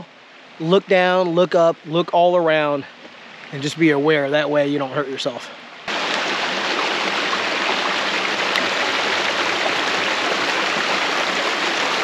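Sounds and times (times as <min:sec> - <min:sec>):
creek water over rocks: 0:00.0 - 0:12.0.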